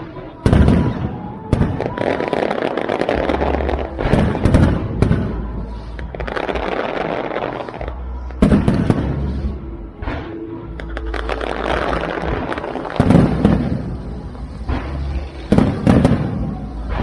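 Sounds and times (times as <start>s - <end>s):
fireworks crackling rumble: 0.0s - 17.0s
sharp fireworks bangs: 0.0s - 17.0s
fireworks shells bursting: 0.3s - 17.0s.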